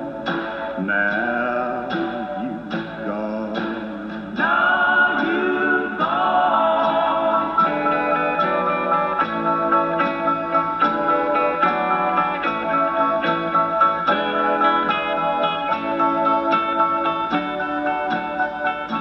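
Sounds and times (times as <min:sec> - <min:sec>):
song with singing and guitar on radio: 0:00.0 - 0:19.0.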